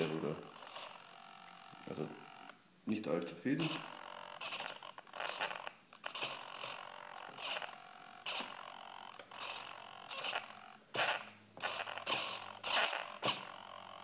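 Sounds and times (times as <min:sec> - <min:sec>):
micro servo whirring: 0:00.0 - 0:02.6, 0:03.6 - 0:14.0.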